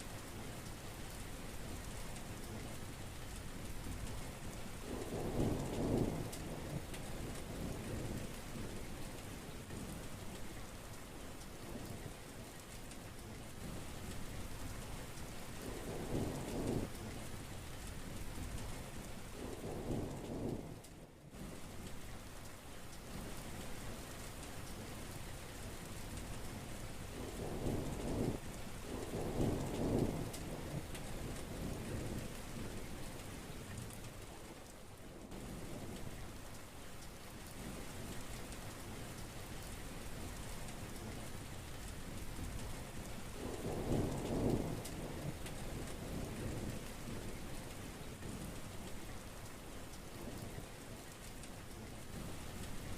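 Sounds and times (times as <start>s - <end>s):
heavy rain falling: 0.0s - 52.9s
low rumbles of thunder: 0.1s - 10.9s, 11.5s - 12.6s, 13.2s - 22.2s, 23.1s - 36.4s, 37.4s - 49.4s, 50.1s - 52.9s.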